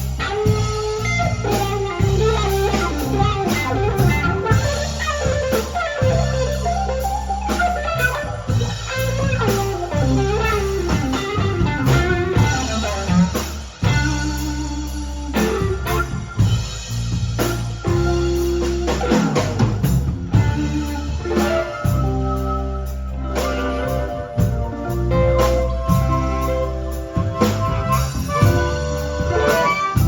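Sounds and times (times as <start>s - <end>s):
bass guitar: 0.0s - 30.0s
drum kit: 0.0s - 30.0s
electric guitar lead with bent notes: 0.0s - 30.0s.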